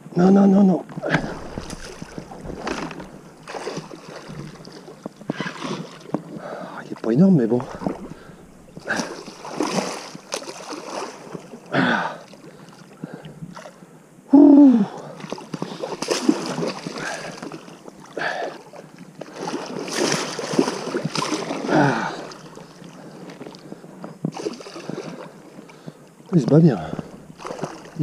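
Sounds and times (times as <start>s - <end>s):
water splashing and sloshing: 0.8s - 13.9s, 15.0s - 28.0s.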